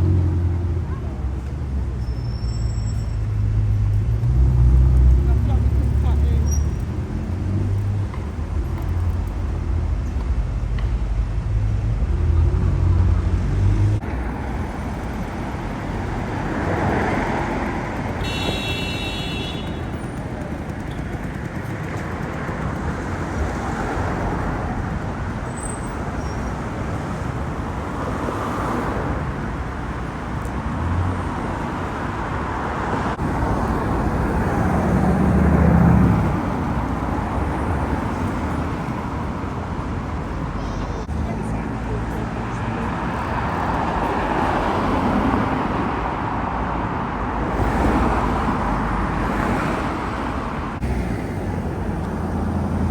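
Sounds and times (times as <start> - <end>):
cars driving past: 0.0 - 52.9.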